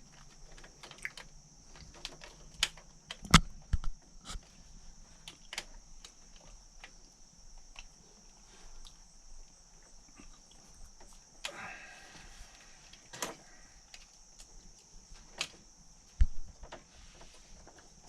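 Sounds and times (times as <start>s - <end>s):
steady high hiss: 2.2s - 18.0s.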